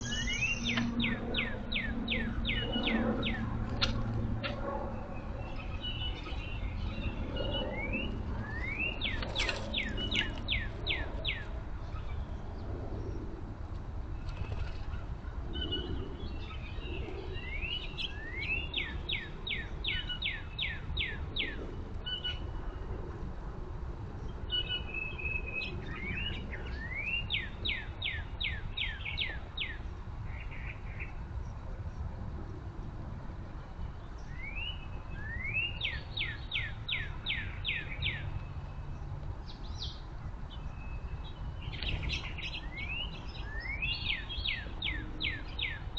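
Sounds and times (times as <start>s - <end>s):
steady low rumble: 0.0s - 45.9s.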